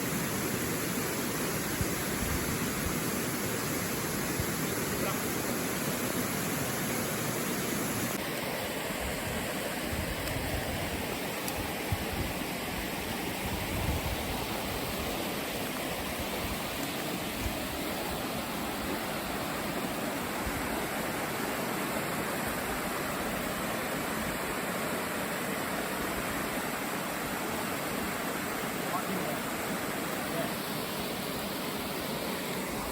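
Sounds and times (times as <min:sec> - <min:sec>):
stream water rushing: 0:00.0 - 0:32.9.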